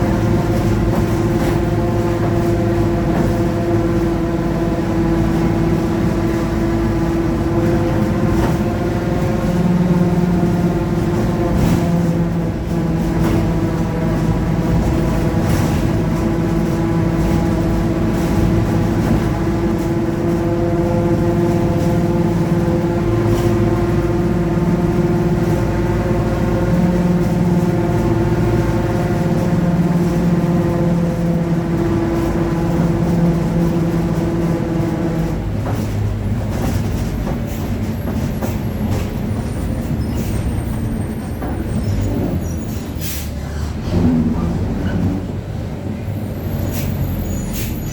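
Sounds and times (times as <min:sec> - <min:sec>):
bus differential whine: 0:00.0 - 0:47.9
bus running rumble: 0:00.0 - 0:47.9.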